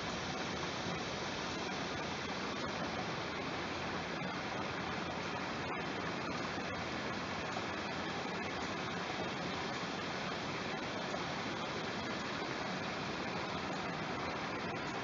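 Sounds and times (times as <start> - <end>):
small waterfall pouring: 0.0 - 15.0.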